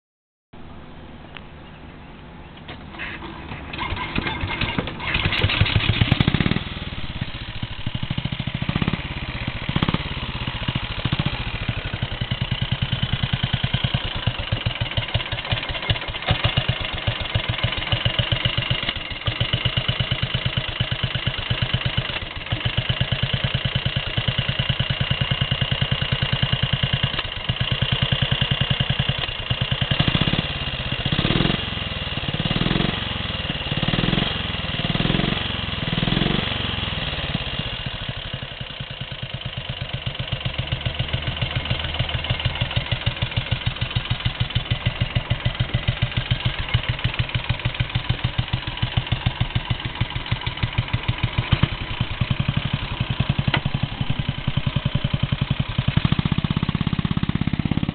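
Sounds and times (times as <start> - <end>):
motorcycle engine idling and revving: 0.6 - 57.9
motorcycle engine kick-start: 2.6 - 57.9.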